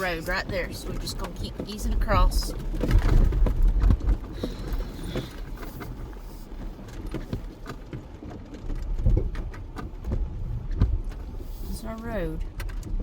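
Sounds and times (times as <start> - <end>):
knocks and rattles over rocks: 0.0 - 13.0
low engine rumble: 0.0 - 13.0.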